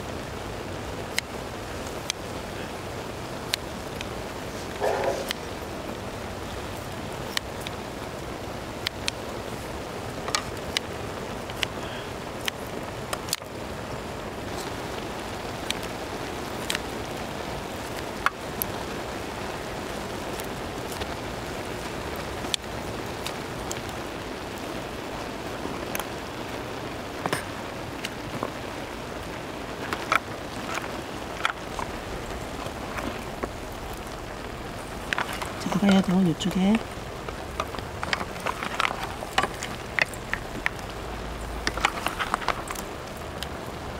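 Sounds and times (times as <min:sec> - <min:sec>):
broth simmering and bubbling: 0:00.0 - 0:43.9.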